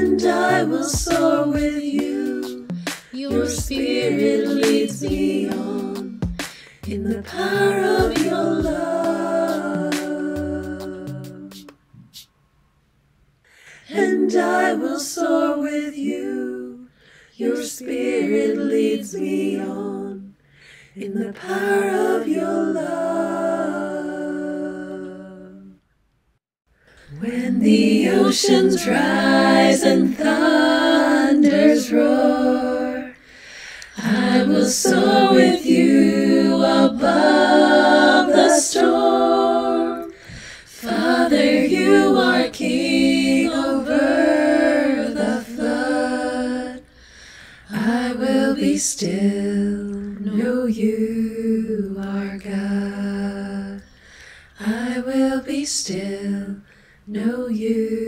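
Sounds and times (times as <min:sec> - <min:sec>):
unaccompanied worship singing: 0:00.0 - 0:12.3, 0:13.5 - 0:25.8, 0:26.9 - 0:58.0.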